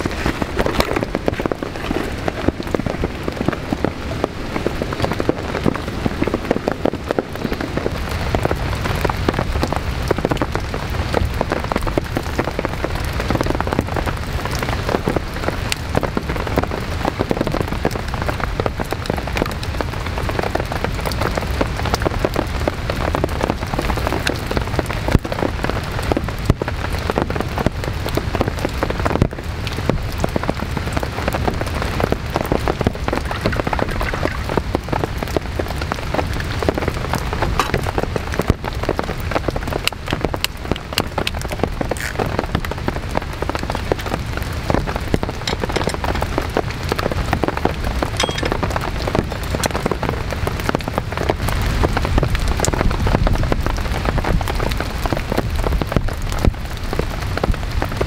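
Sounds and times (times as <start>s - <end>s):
heavy rain in a forest: 0.0s - 58.0s.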